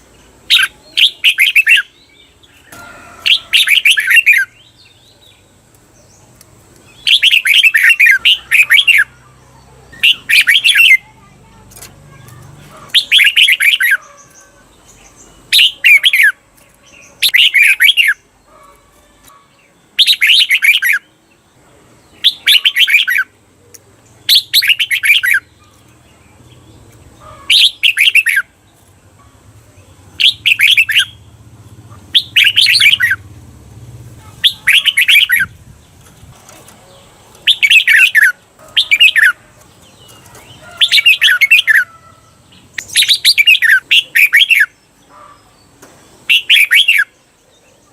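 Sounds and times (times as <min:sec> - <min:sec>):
bird singing warbled phrases: 0:00.0 - 0:47.9.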